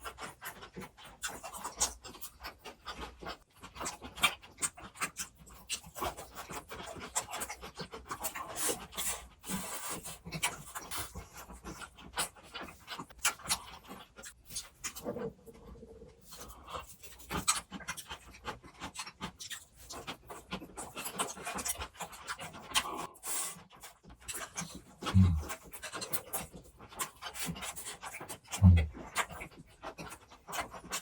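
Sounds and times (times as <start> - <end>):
person chewing food: 0.3 - 31.0.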